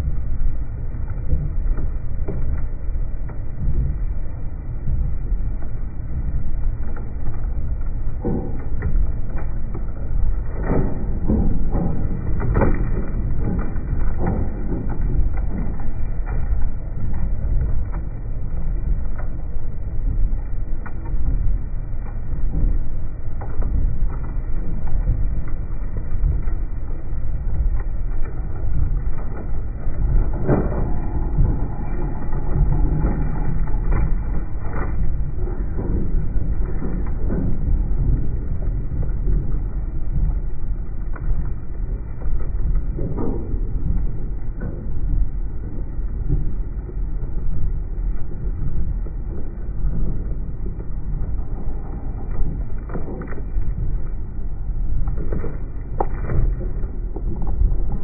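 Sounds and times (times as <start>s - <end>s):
bulldozer engine and track rumble: 0.0s - 58.0s
woody debris cracking: 0.0s - 58.0s.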